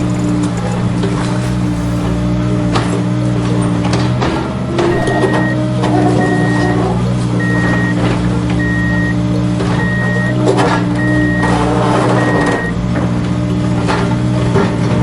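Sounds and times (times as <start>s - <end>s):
reverse warning beeper: 0.0s - 12.8s
low motor hum: 0.0s - 15.0s.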